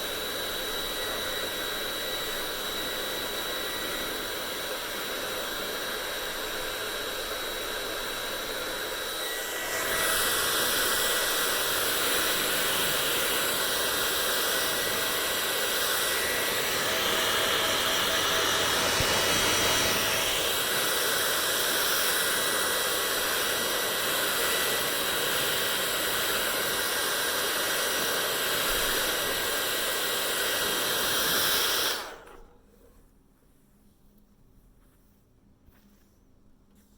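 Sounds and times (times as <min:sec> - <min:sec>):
hair dryer blowing: 0:00.0 - 0:32.6.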